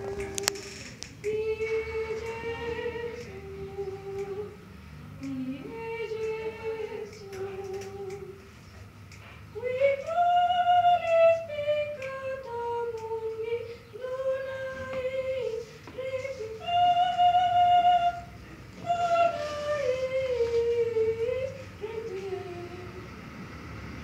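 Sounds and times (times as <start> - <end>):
woman singing a hymn: 0.0 - 23.2.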